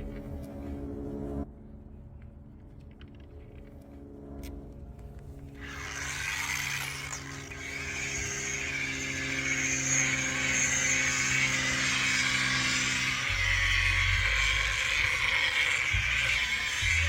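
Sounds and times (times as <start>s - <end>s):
rotary buffer humming: 0.0s - 17.0s.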